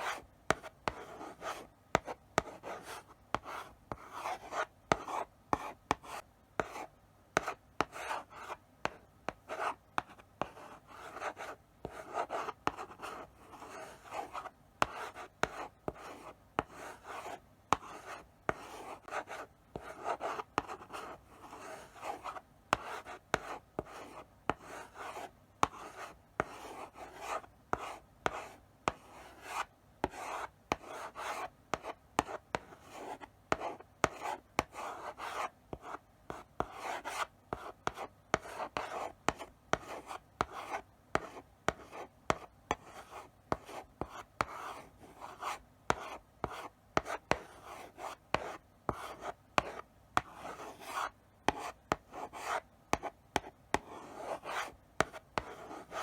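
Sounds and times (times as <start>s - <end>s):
chalk scratching on blackboard: 0.0s - 56.0s
chalk tapping on board: 0.1s - 6.8s, 7.4s - 16.0s, 24.5s - 56.0s.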